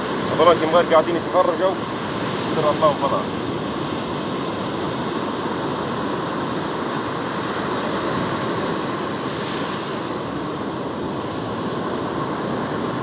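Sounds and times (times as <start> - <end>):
surf breaking on beach: 0.0 - 13.0
wind on microphone: 0.0 - 13.0.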